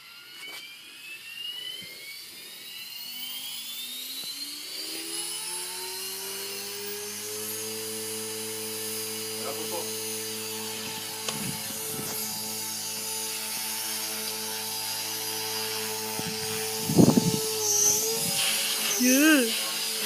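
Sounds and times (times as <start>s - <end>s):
model helicopter rotor whine: 0.0s - 20.0s.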